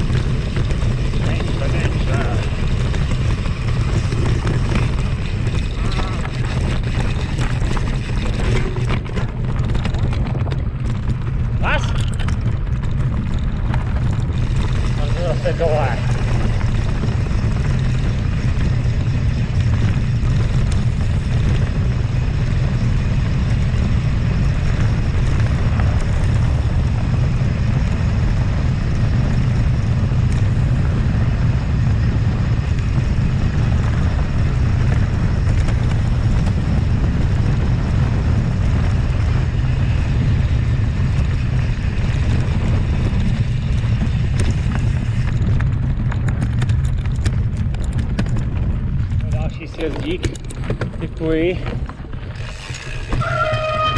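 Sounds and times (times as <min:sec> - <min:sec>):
bike rumbling on rough trail: 0:00.0 - 0:53.9
wind buffeting microphone: 0:00.0 - 0:53.9.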